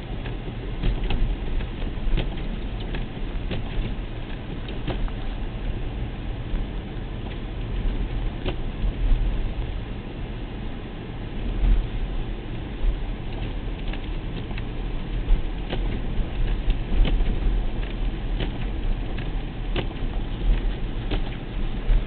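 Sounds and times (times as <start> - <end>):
road rumble inside car: 0.0 - 22.0.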